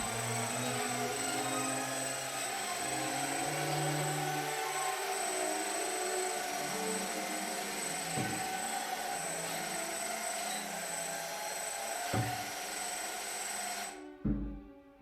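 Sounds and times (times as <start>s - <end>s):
small electric motors whirring: 0.0s - 14.0s.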